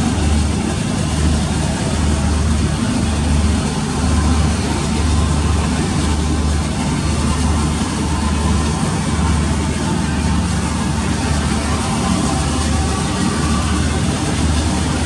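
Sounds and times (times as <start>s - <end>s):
ship engines droning: 0.0s - 15.0s
wind and sea rushing: 0.0s - 15.0s.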